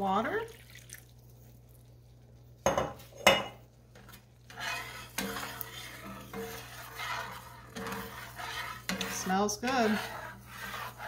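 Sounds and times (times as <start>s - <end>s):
spoon stirring and scraping pan: 1.4s - 11.0s.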